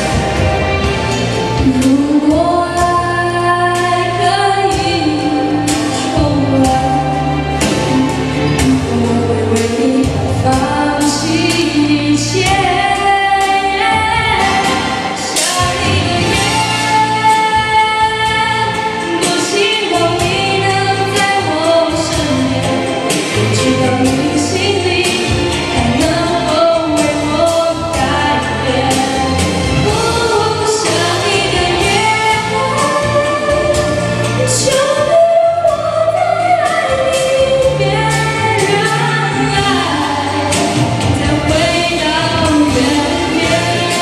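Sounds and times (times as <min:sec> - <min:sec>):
instrumental accompaniment with drums: 0:00.0 - 0:44.0
woman singing pop ballad: 0:00.0 - 0:44.0.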